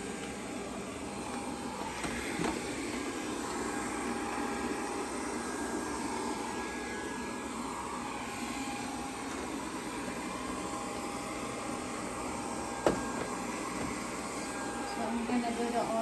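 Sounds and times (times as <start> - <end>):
robot vacuum whirring: 0.0 - 16.0.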